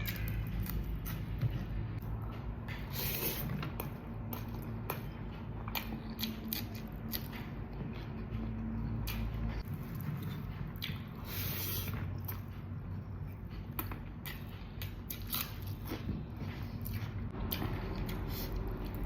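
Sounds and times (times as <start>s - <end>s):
wet chewing and biting: 2.7s - 19.0s.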